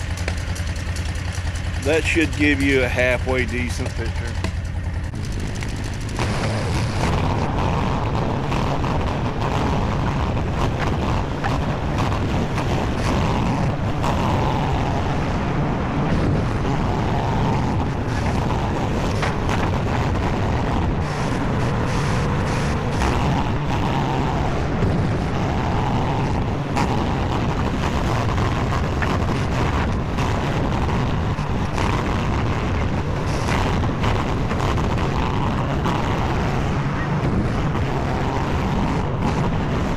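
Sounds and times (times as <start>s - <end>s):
skid steer engine running: 0.0s - 37.7s
high whine: 0.0s - 39.5s.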